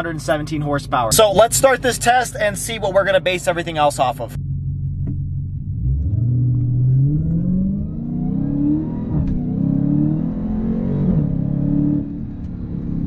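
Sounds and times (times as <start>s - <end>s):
car engine at full throttle: 0.0s - 13.0s.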